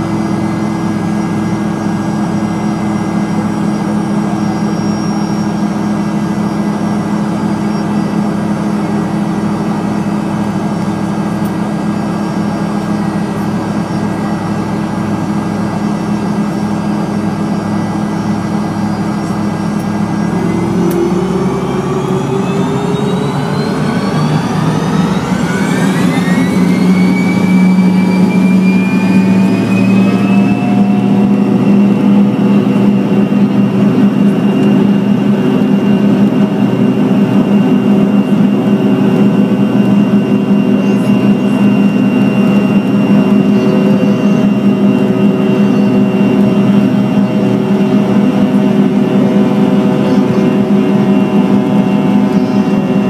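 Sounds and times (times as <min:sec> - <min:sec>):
jet engine whine in cabin: 0:00.0 - 0:53.0.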